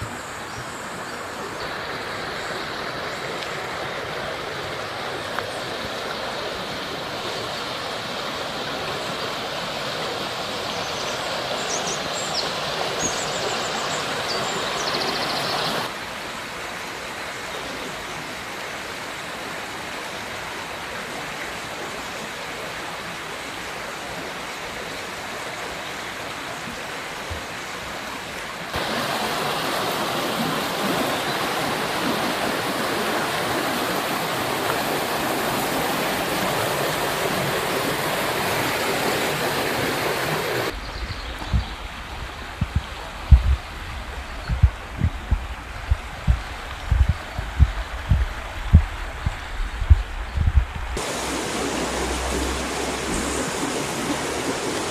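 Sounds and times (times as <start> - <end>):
river rushing over rocks: 0.0 - 54.9.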